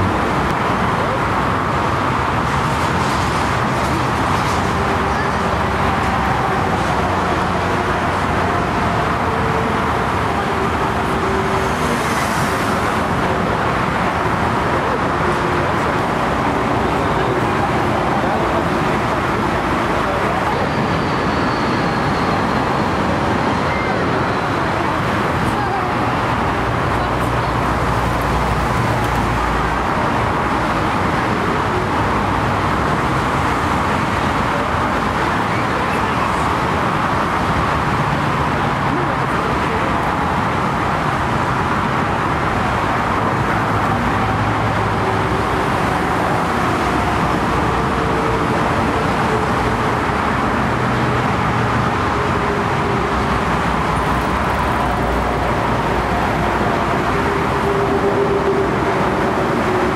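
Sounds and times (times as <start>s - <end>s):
airliner jet engines roaring: 0.0s - 59.9s.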